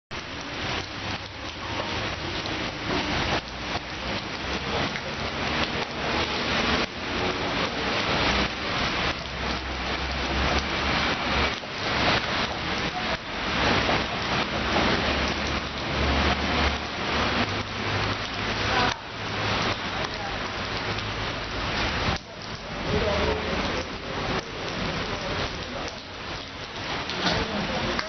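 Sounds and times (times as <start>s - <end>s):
rain pattering: 0.1s - 28.0s.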